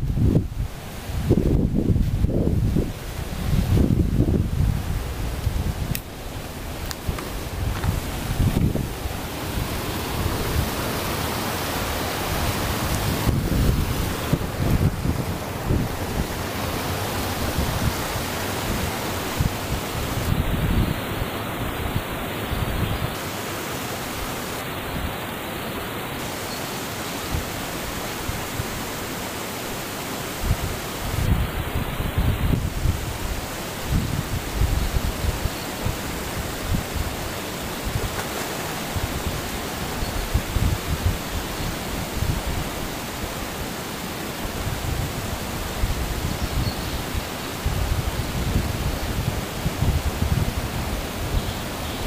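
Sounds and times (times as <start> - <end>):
wind buffeting microphone: 0.0 - 23.2, 30.4 - 42.9, 44.5 - 52.0
churning water rushing: 0.0 - 52.0.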